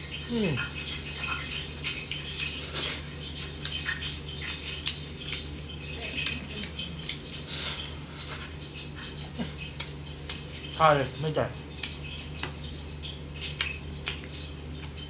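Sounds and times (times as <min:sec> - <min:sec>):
steady low hum: 0:00.0 - 0:15.0
wet squishes of hand mixing food: 0:00.0 - 0:15.0
chewing and lip-smacking: 0:00.2 - 0:10.8, 0:11.6 - 0:15.0.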